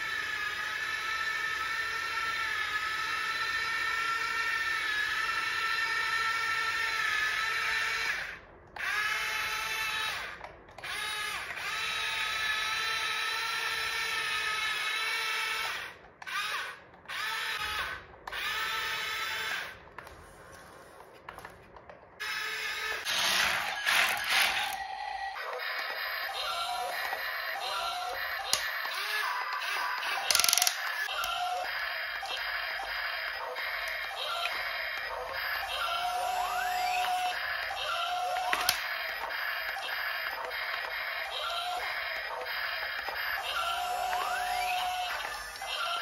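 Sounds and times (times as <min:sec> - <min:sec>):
small gear motor whining: 0:00.0 - 0:21.0, 0:22.2 - 0:46.0.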